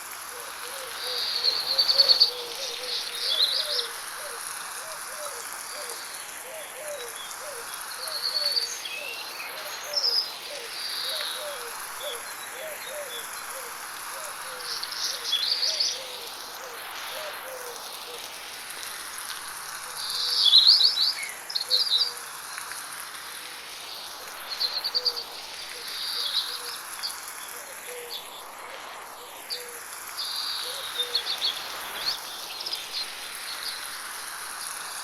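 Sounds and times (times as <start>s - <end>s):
insects buzzing: 0.0s - 35.0s
light rain: 0.0s - 35.0s.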